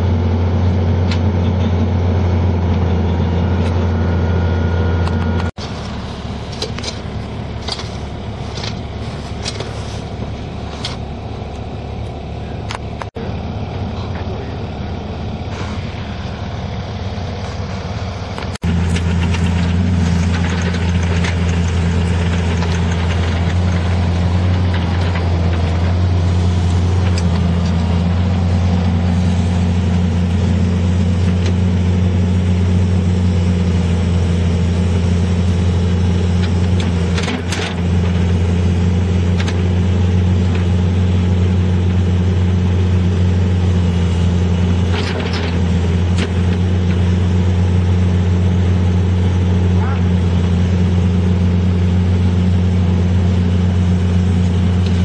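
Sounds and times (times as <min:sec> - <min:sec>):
excavator engine humming: 0:00.0 - 0:55.0.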